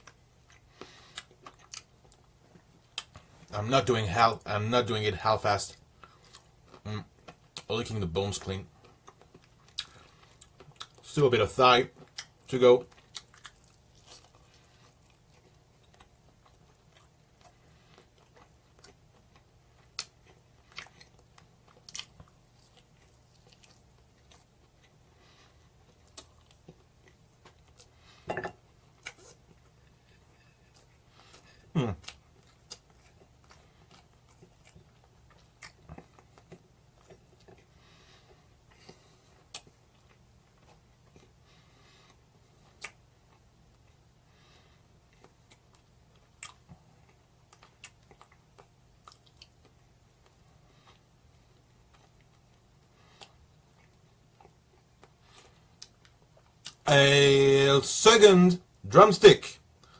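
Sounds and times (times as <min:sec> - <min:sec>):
person chewing meat: 0:00.0 - 0:03.3, 0:05.7 - 0:07.7, 0:08.8 - 0:11.0, 0:11.9 - 0:56.8.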